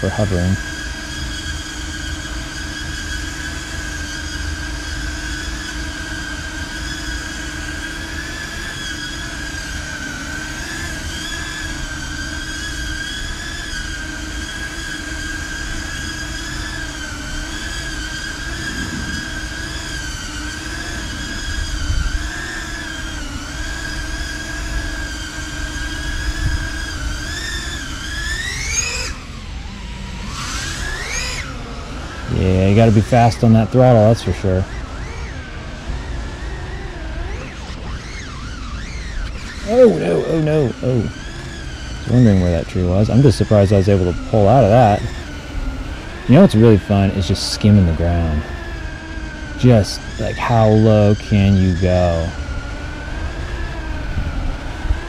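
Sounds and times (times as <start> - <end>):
drone motors whining: 0.0 - 55.0.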